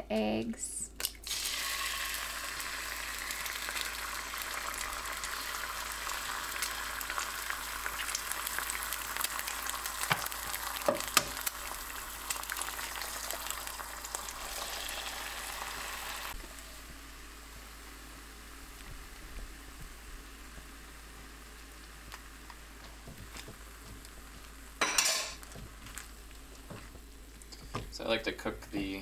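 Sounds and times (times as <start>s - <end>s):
egg sizzling in a frying pan: 1.0s - 29.0s.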